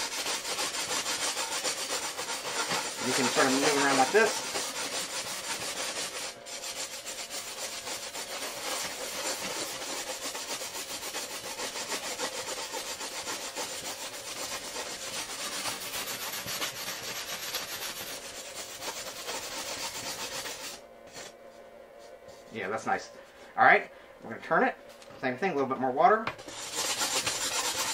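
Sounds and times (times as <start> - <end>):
sanding block scraping glass edge: 0.0 - 21.3, 26.4 - 27.9.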